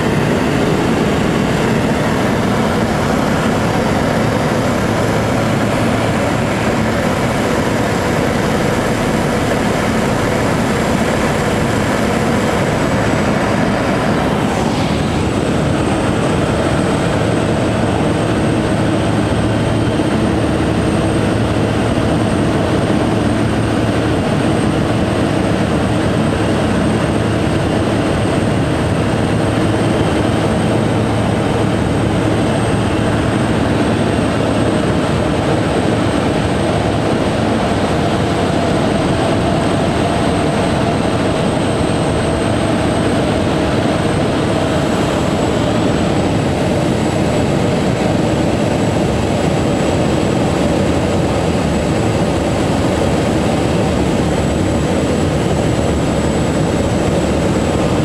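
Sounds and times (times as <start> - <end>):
turboprop engine drone: 0.0 - 58.0.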